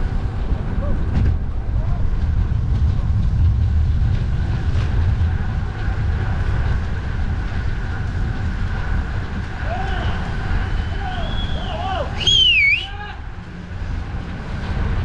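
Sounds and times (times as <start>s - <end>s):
road traffic noise: 0.0s - 15.0s
wind rumble on microphone: 0.0s - 15.0s.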